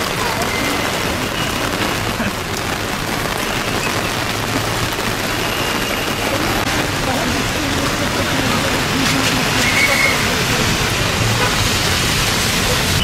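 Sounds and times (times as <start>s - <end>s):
rain falling on wet street: 0.0s - 13.0s.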